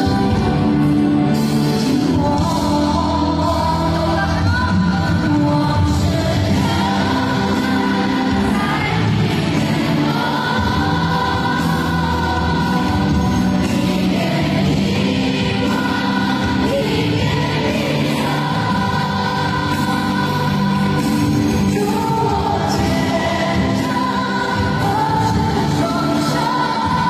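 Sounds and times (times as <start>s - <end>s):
concert backing music: 0.0s - 27.0s
stadium crowd singing along: 0.0s - 27.0s.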